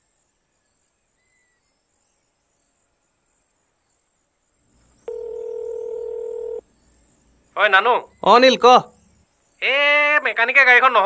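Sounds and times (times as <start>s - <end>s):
crickets trilling: 0.1s - 11.0s.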